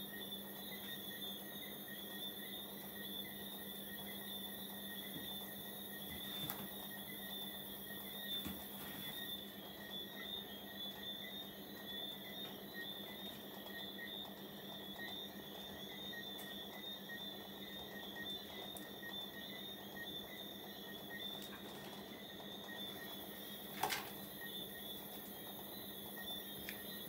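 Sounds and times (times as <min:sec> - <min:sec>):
insects chirping and trilling: 0:00.0 - 0:27.0
steady low hum: 0:00.0 - 0:27.0.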